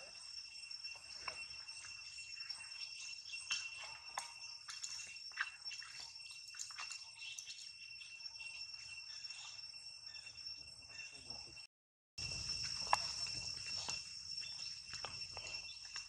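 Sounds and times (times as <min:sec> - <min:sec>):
insect chirps and clicks: 0:00.0 - 0:16.0
insects droning: 0:00.0 - 0:16.0.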